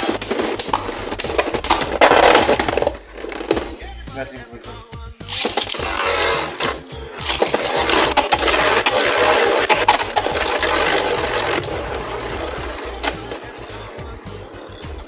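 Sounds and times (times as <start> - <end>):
spinning tops clicking and clattering: 0.0 - 3.8, 5.3 - 15.0
spinning tops whirring: 0.0 - 4.1, 5.2 - 15.0.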